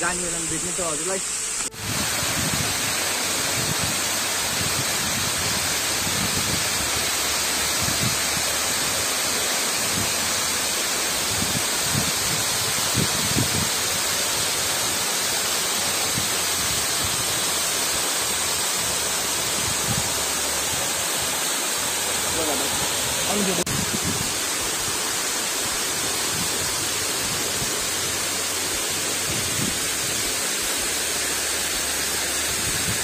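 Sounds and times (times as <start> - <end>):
waterfall rushing and splashing: 0.0 - 33.0.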